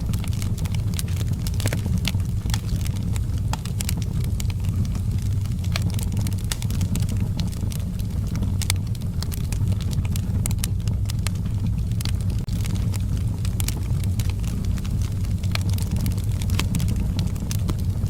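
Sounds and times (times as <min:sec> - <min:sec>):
fire sharp snaps: 0:00.0 - 0:18.0
low rumble of fire: 0:00.0 - 0:18.0.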